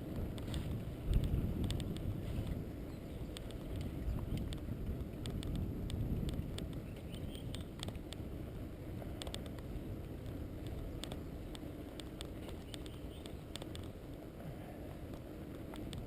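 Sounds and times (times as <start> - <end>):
wheels rumbling on rough road: 0.0 - 16.0
sharp clicks and ticks: 0.2 - 2.6, 3.2 - 8.3, 9.1 - 14.2, 15.1 - 16.0.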